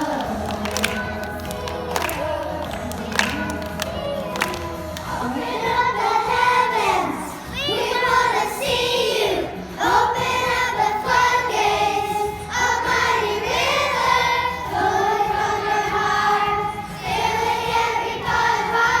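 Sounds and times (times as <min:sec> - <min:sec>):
music: 0:00.0 - 0:19.0
voices singing together: 0:00.0 - 0:19.0.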